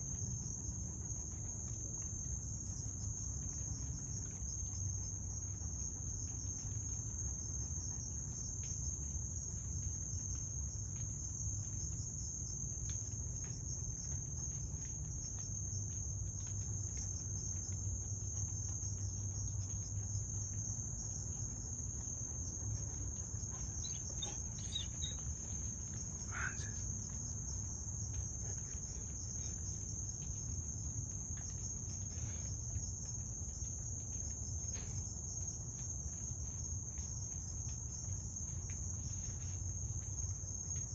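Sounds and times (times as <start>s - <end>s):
crickets trilling: 0.0s - 40.9s
low constant rumble: 0.0s - 40.9s.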